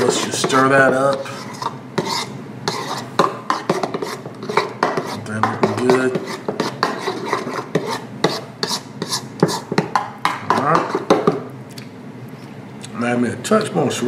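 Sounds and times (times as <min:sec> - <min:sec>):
spoon clinking and scraping bowl: 0:00.0 - 0:11.4
wet sticky stirring: 0:00.0 - 0:11.9.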